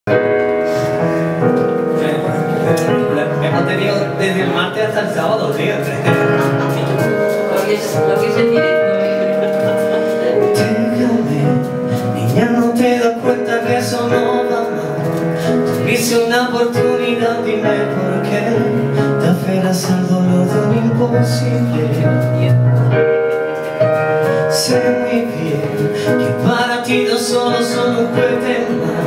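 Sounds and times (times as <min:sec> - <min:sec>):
keyboard accompaniment: 0:00.1 - 0:29.0
man singing slow ballad: 0:02.5 - 0:22.6, 0:24.2 - 0:29.0.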